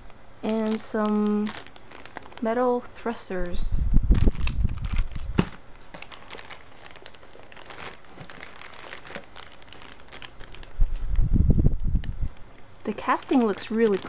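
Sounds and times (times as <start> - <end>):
plastic bags crinkling: 0.0 - 3.2, 4.1 - 11.2, 12.1 - 14.0.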